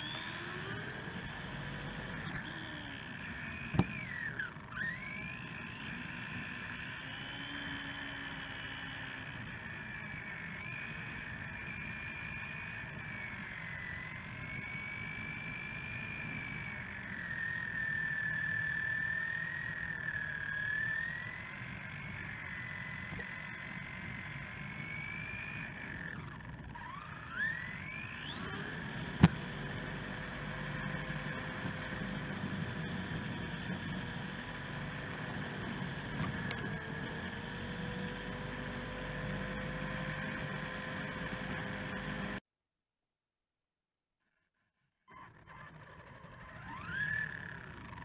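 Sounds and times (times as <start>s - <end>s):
electric motor whining: 0.0s - 42.4s, 45.2s - 48.0s.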